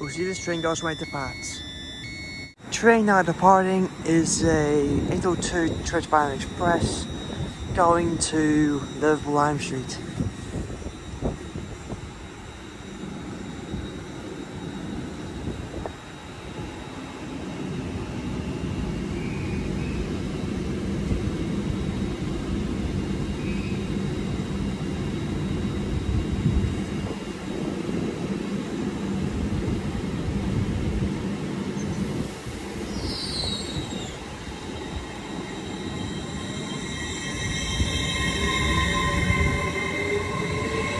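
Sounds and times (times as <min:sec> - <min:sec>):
train rumble and hum: 0:00.0 - 0:40.9.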